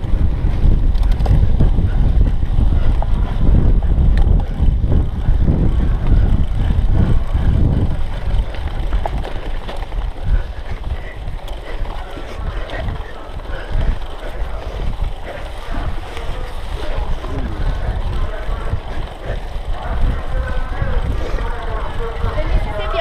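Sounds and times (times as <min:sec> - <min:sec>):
bike rattling over dirt trail: 0:00.0 - 0:23.0
wind buffeting microphone: 0:00.0 - 0:23.0.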